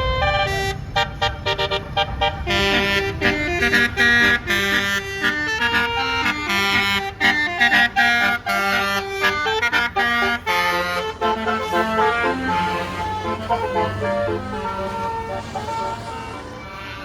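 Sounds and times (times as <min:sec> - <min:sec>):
bus engine rumble: 0:00.0 - 0:17.0
bus horn melody: 0:00.0 - 0:17.0.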